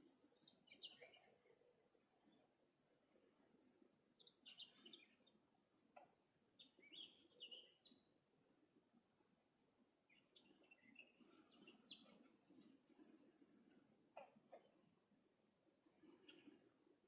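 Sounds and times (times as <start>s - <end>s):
birds chirping: 0.0s - 6.0s, 6.6s - 8.1s, 9.6s - 15.0s, 16.0s - 16.7s.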